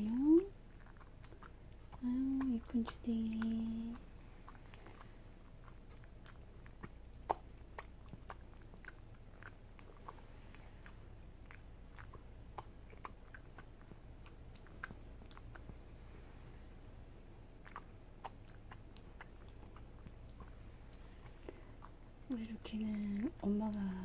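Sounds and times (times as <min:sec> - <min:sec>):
dog chewing: 0:00.0 - 0:24.0.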